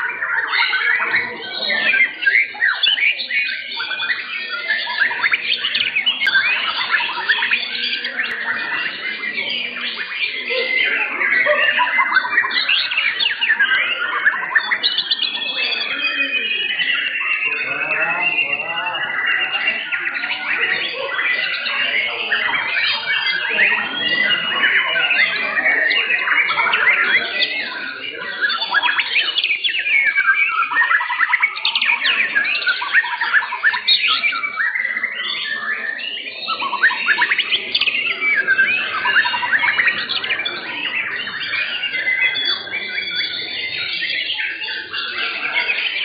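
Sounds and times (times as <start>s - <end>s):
songbirds whistling and trilling: 0.0s - 46.0s.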